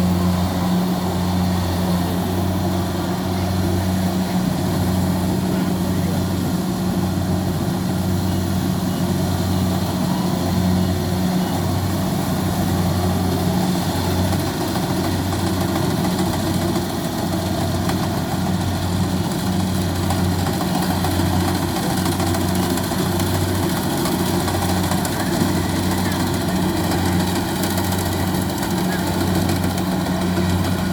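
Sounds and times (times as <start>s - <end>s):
diesel engine humming: 0.0s - 30.9s.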